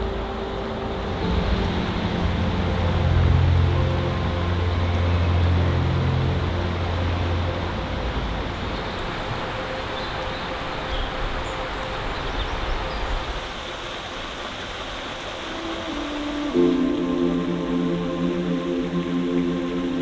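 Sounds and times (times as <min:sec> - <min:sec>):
rushing outdoor ambience: 0:00.0 - 0:20.0.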